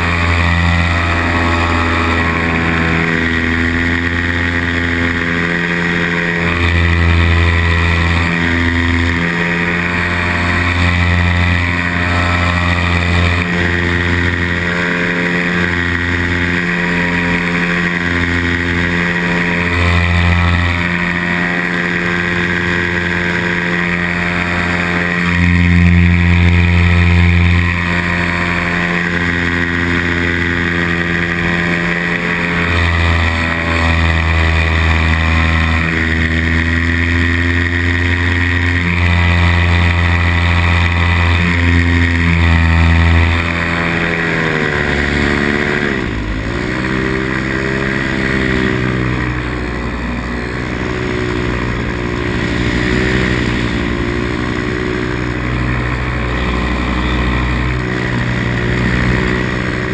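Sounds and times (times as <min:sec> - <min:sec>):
paramotor engine and propeller hum: 0:00.0 - 0:59.9.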